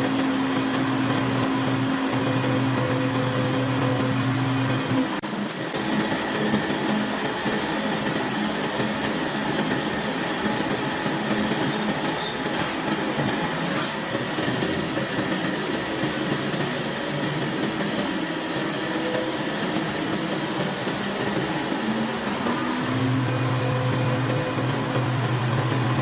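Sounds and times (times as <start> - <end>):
cnc machine running: 0.0 - 26.0.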